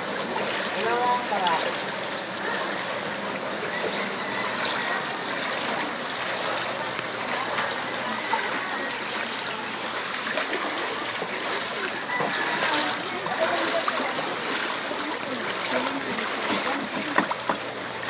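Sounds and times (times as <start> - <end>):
floodwater churning around legs: 0.0 - 18.0.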